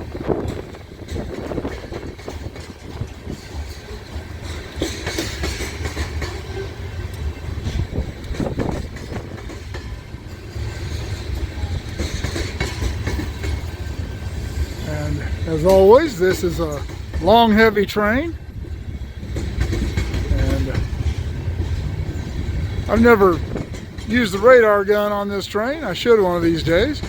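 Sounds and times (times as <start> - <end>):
train rumble: 0.0 - 27.0
train wheels clacking on rail joints: 0.0 - 27.0.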